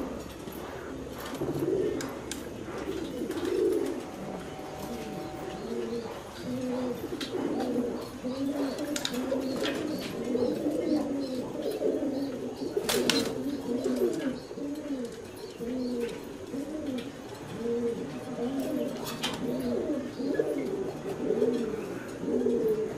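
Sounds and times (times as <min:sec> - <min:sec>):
pigeons cooing: 0:00.0 - 0:22.9.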